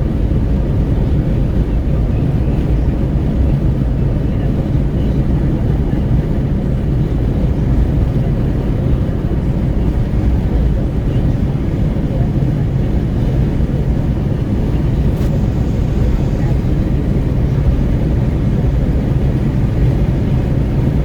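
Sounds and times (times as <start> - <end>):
wind buffeting through car window: 0.0 - 21.0.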